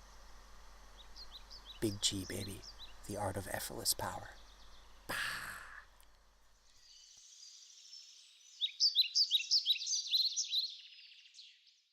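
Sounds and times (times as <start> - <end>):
songbird singing: 0.0 - 11.9.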